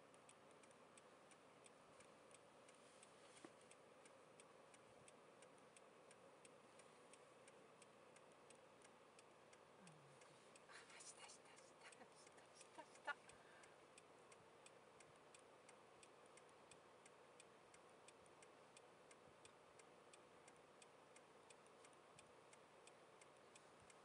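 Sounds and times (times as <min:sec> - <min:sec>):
faint hiss: 0:00.0 - 0:24.0
soft regular ticking: 0:00.0 - 0:24.0.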